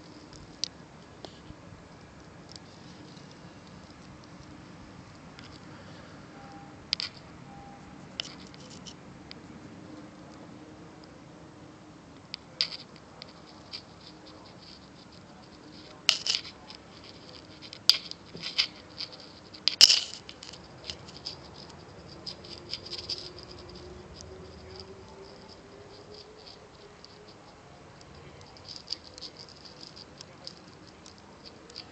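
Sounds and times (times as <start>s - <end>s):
scratching and rustling on microphone: 0.0s - 6.1s, 8.0s - 9.0s, 12.3s - 31.9s.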